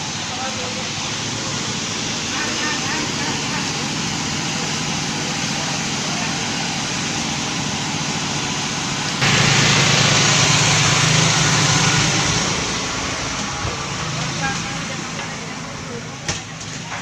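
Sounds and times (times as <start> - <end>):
outboard motors droning: 0.0 - 17.0.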